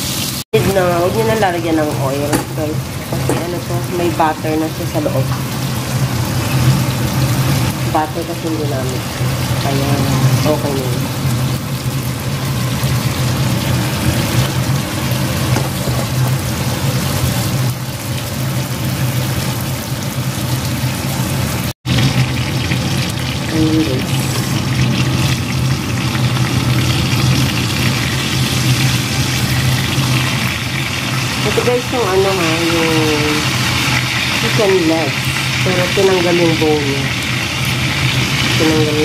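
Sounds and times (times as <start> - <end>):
chicken sizzling in butter: 0.0 - 39.0.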